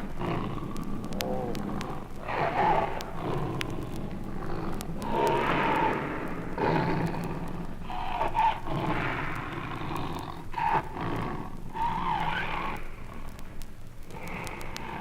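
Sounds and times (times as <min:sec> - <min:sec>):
tiger growling and snarling: 0:00.0 - 0:12.8.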